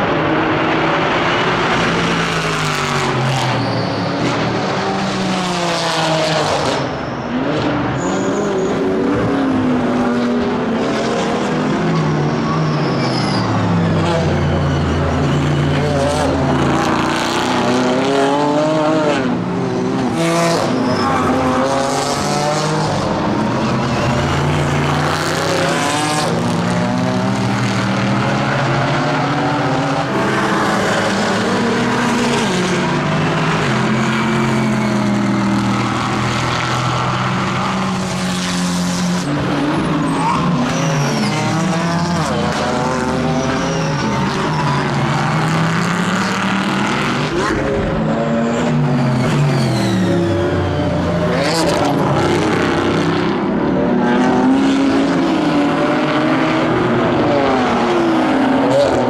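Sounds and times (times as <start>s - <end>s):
race car engine revving through gears: 0.1s - 59.0s.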